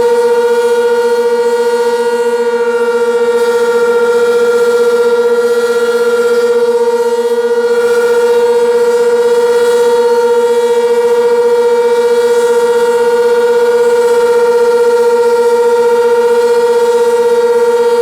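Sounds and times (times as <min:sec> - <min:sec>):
warning siren steady tone: 0:00.0 - 0:18.0.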